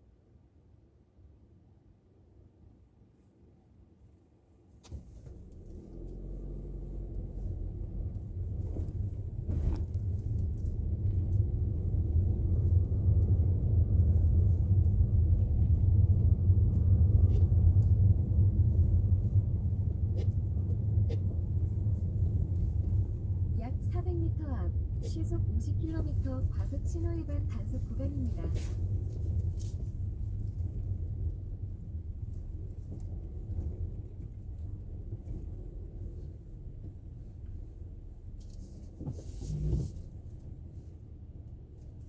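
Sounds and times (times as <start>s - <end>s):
car engine and road rumble: 4.4s - 42.0s.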